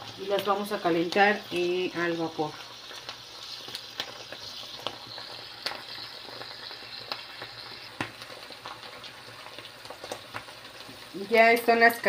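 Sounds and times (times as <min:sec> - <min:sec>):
crackles and pops: 0:00.0 - 0:11.7
meat frying in oil: 0:00.0 - 0:12.0.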